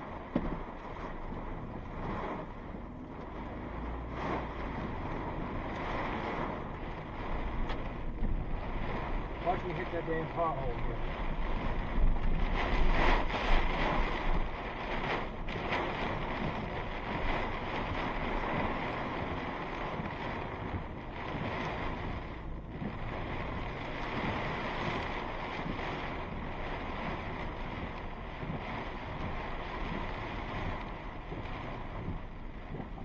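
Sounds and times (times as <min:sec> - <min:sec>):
strong storm wind: 0:00.0 - 0:33.0
truck road noise: 0:01.2 - 0:33.0.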